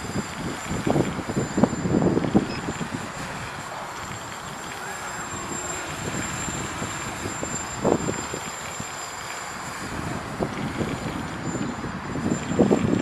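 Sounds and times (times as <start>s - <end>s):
high-pitched whine: 0.0s - 13.0s
wind buffeting microphone: 0.0s - 13.0s.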